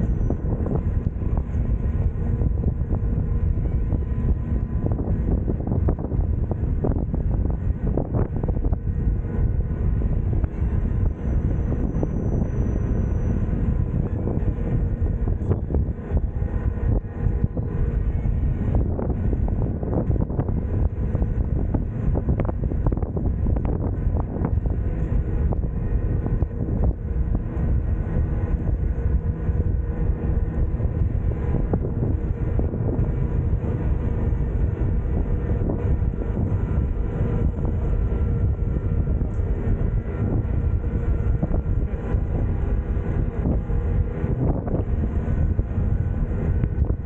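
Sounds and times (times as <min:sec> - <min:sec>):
faint steady tones: 0:00.0 - 0:47.0
train running on rails: 0:00.0 - 0:47.0.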